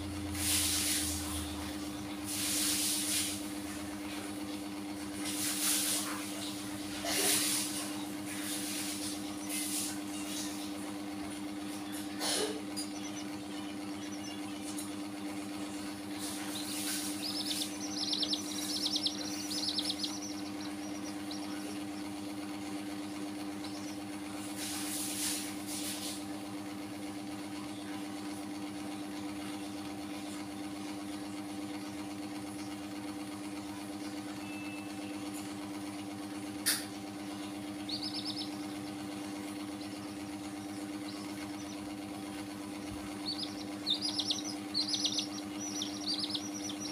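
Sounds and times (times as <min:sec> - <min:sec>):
chicks peeping: 0:00.0 - 0:46.9
mechanical hum: 0:00.0 - 0:46.9.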